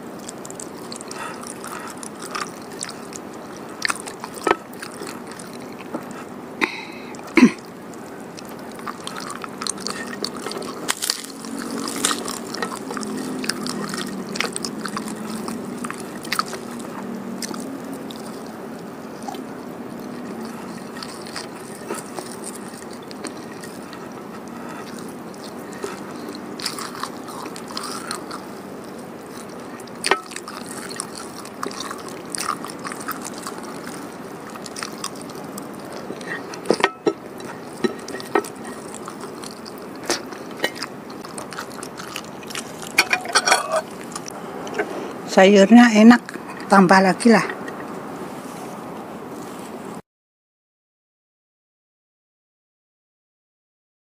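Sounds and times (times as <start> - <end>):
person chewing food: 0.0 - 45.2
low room hum: 0.0 - 50.0.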